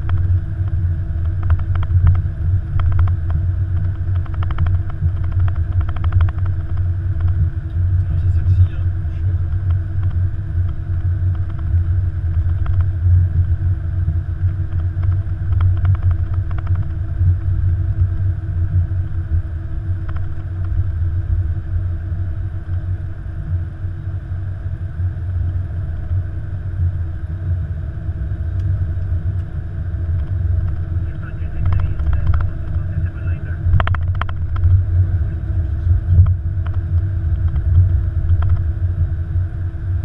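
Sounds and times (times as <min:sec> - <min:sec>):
aircraft rolling rumble: 0:00.0 - 0:40.0
constant hum: 0:00.0 - 0:40.0.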